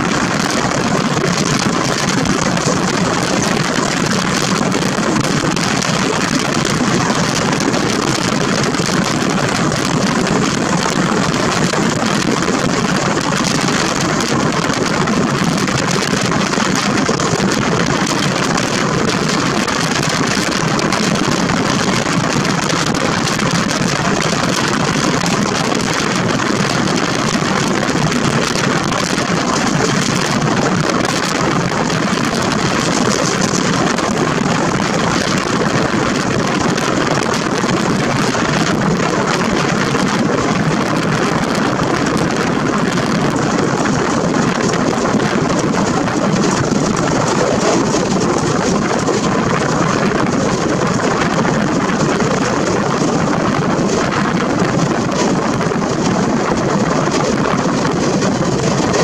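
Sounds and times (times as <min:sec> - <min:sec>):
rush of wind: 0:00.0 - 0:59.0.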